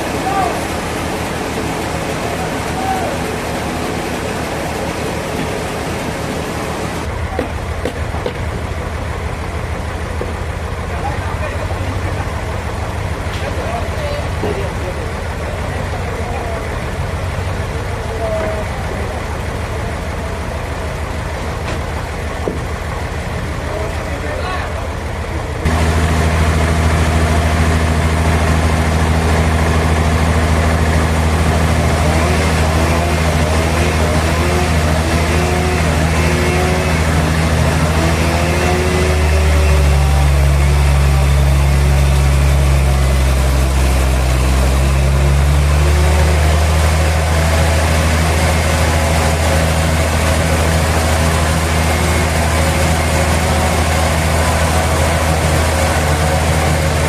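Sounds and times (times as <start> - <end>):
sawmill engine drone: 0.0 - 57.0.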